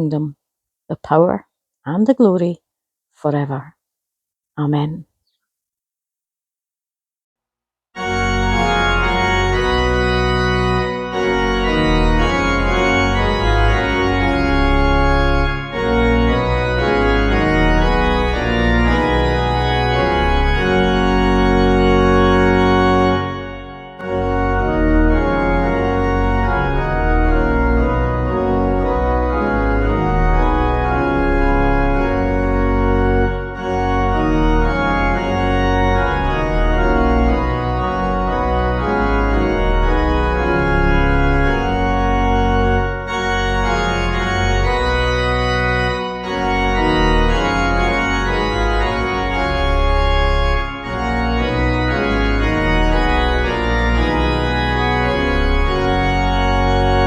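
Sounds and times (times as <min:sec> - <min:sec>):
organ playing sustained chords: 0:08.0 - 0:57.0.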